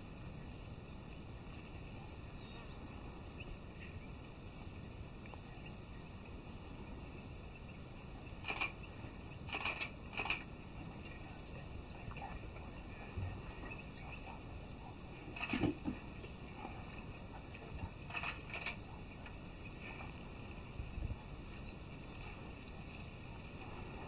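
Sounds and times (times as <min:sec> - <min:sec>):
steady low background noise: 0:00.0 - 0:24.0.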